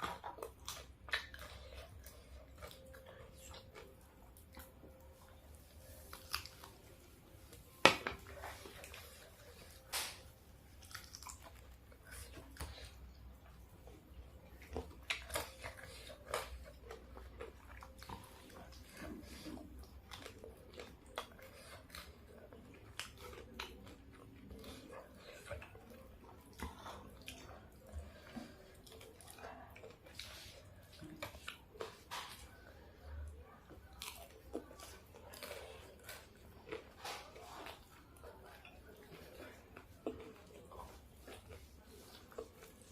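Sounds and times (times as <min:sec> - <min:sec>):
biting and chewing crunches: 0:00.0 - 0:42.9.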